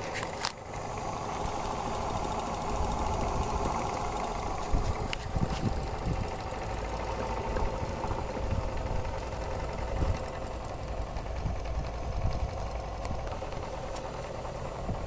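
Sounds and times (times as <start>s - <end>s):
model steam engine running: 0.0s - 15.0s.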